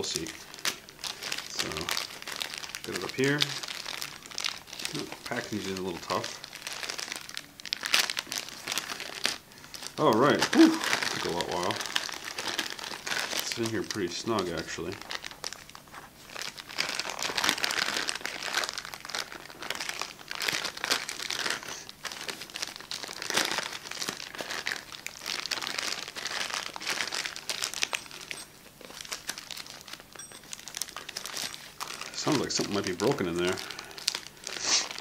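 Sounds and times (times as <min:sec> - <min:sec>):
plastic bag crinkling: 0:00.0 - 0:35.0.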